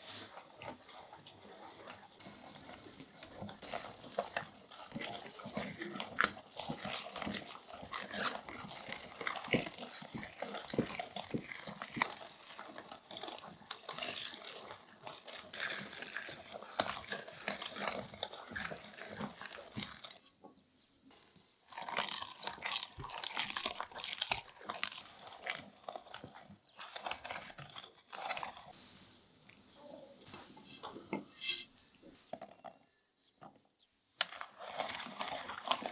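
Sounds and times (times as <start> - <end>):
meat grinder squelching and crunching: 0.0 - 29.6, 32.2 - 35.9.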